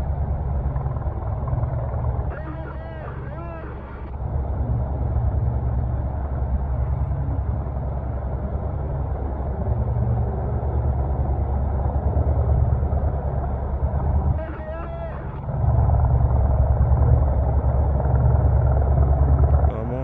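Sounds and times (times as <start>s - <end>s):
helicopter rotor and engine: 0.0s - 20.0s.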